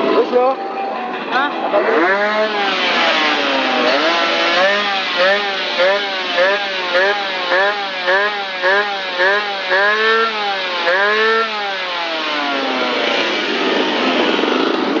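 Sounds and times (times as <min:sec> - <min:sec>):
old engine revving: 0:01.8 - 0:15.0.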